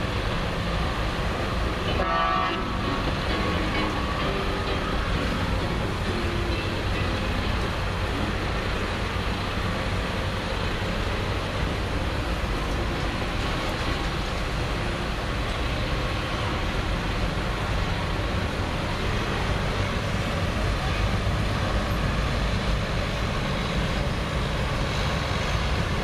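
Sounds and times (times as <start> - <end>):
tractor engines running: 0.0 - 26.0.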